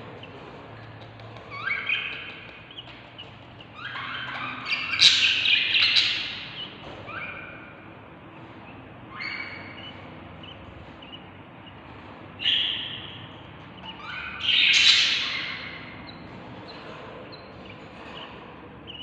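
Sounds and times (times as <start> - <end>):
bird chicks begging calls: 0.0 - 19.0.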